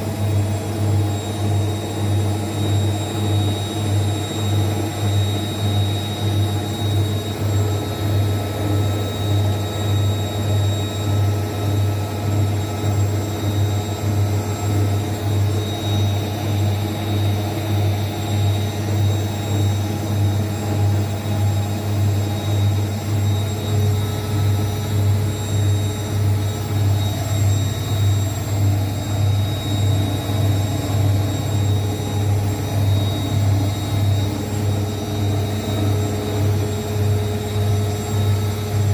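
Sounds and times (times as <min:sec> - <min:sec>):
thin steady whine: 0:00.0 - 0:38.9
washing machine spinning: 0:00.0 - 0:38.9.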